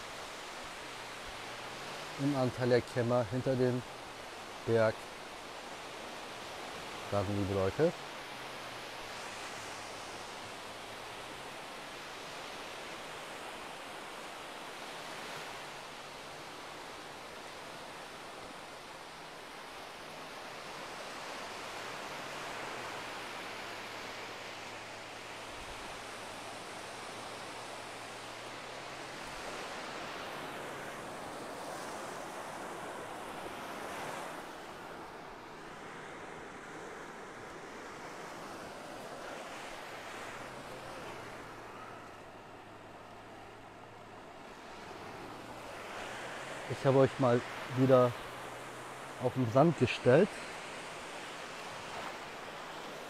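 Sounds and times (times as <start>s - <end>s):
waves washing on a beach: 0.0s - 53.0s.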